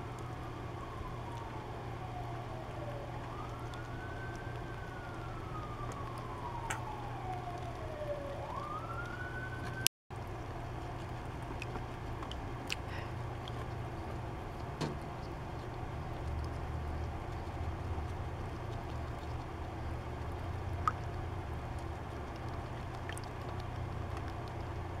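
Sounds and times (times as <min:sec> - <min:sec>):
wailing siren: 0:00.0 - 0:09.9, 0:13.3 - 0:25.0
steady low hum: 0:00.0 - 0:25.0.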